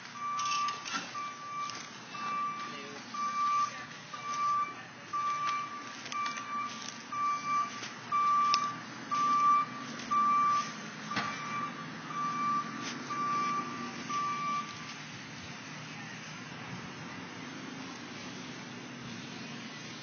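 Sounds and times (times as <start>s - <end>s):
low engine rumble: 0.0s - 20.0s
vehicle reversing alarm beeping: 0.0s - 20.0s.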